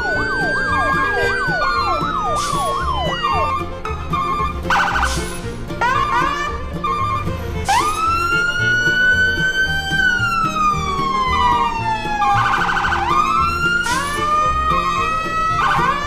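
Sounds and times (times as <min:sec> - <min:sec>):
siren-like whistling tone: 0:00.0 - 0:06.0, 0:06.8 - 0:14.9
background music with low beat: 0:00.0 - 0:16.0.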